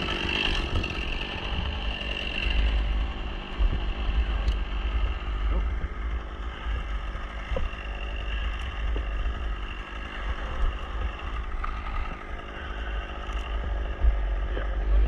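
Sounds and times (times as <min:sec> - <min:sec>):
engine running: 0:00.0 - 0:15.0
wind rumble on microphone: 0:00.0 - 0:15.0.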